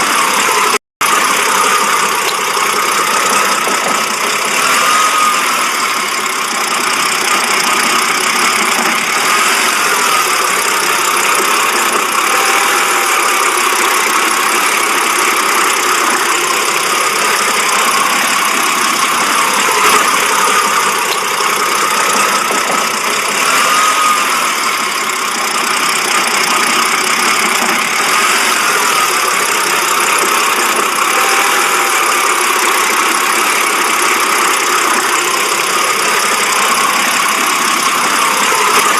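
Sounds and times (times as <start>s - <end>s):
car engine idling roughly: 0.0s - 38.9s.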